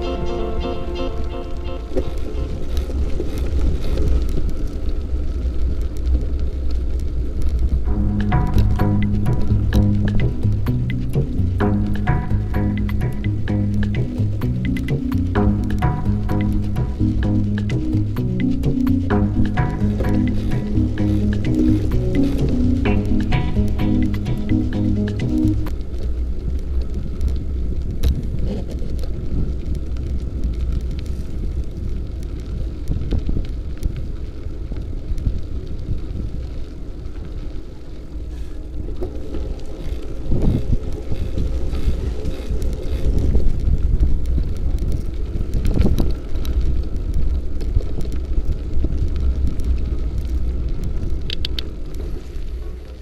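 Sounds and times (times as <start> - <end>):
bicycle rattle and tyre noise: 0.0 - 53.0
wind rumbling on microphone: 0.0 - 53.0.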